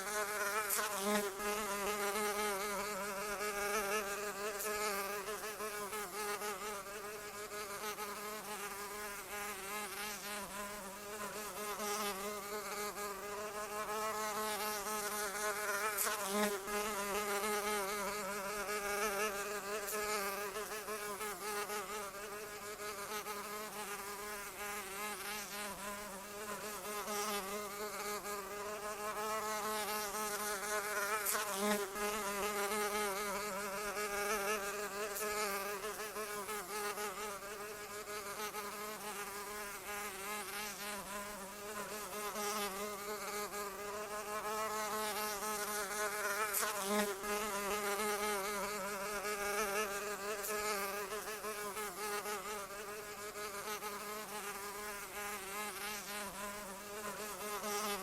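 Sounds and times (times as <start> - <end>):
flying insect buzzing: 0.0 - 58.0.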